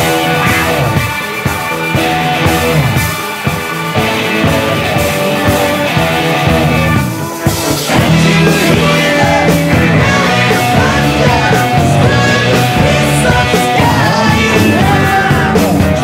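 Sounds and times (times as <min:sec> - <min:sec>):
rock band with guitar: 0:00.0 - 0:16.0.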